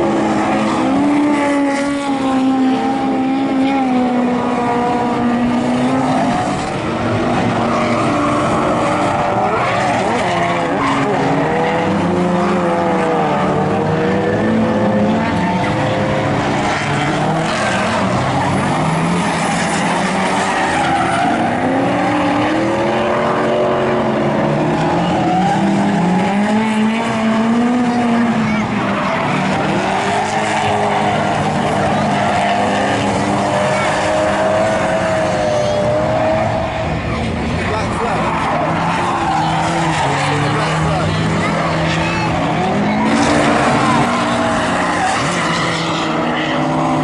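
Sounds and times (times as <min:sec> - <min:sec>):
car engines revving: 0:00.0 - 0:47.0.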